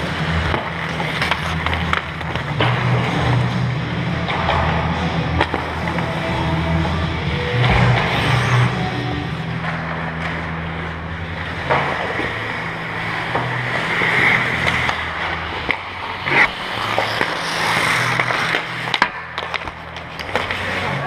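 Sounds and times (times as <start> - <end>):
hockey sticks and puck clacking: 0.0 - 21.0
low rink hum: 0.0 - 21.0
skate blades scraping ice: 0.0 - 21.0.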